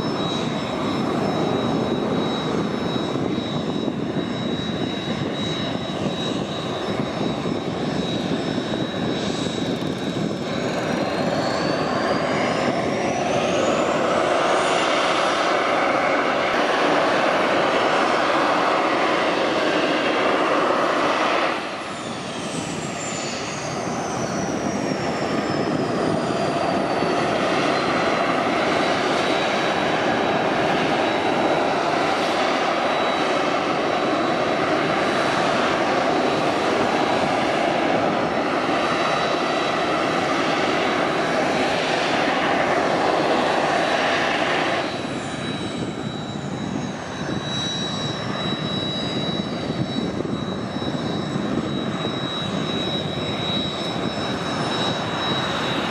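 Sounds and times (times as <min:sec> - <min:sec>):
high falling jet whine: 0:00.0 - 0:55.9
jet engines at take-off power: 0:00.0 - 0:55.9.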